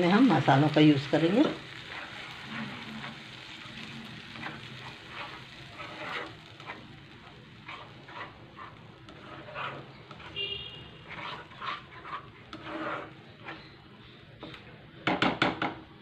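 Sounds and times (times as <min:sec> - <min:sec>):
paste sizzling in oil: 0:00.0 - 0:14.0
spatula stirring and scraping: 0:00.0 - 0:14.6.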